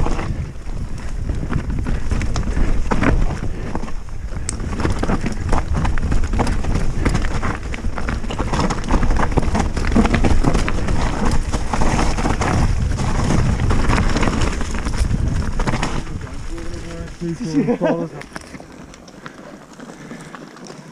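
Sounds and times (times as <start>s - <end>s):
wind buffeting microphone: 0.0s - 18.6s
bike frame rattling: 0.0s - 20.9s
bike tyres rolling over dirt: 0.0s - 20.9s.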